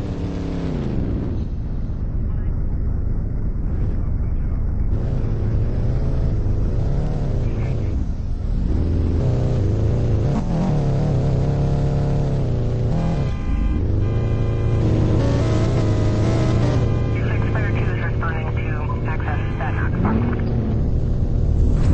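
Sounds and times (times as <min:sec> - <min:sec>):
car engine revving: 0:00.0 - 0:02.2, 0:03.3 - 0:21.9.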